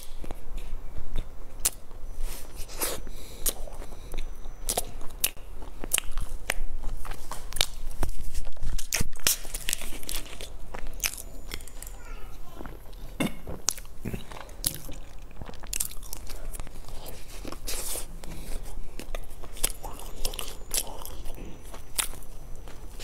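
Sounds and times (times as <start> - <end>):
crunchy chewing of bread: 0.0 - 23.0.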